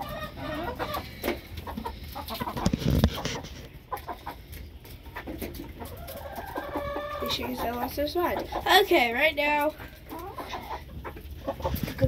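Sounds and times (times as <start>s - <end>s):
hens clucking softly: 0.0s - 9.0s, 9.6s - 12.0s.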